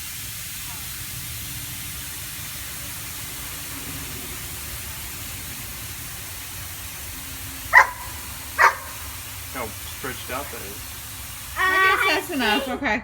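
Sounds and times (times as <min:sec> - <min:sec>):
gas hissing through nozzle: 0:00.0 - 0:12.8.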